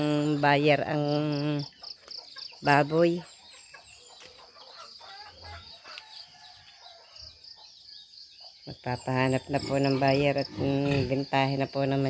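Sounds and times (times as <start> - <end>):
chickens clucking: 1.2 - 7.8, 8.4 - 12.0.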